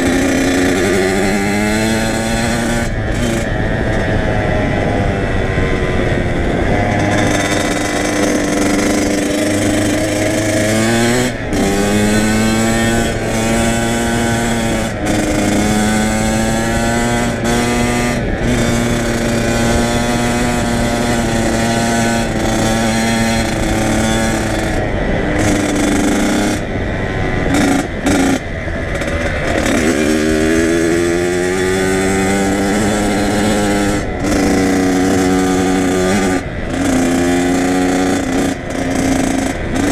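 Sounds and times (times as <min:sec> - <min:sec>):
two-stroke dirt bike engine: 0:00.0 - 0:39.9.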